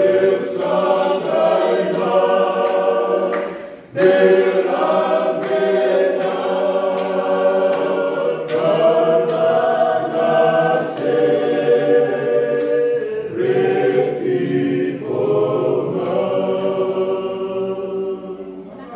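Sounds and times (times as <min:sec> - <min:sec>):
men's choir singing a hymn: 0:00.0 - 0:18.7.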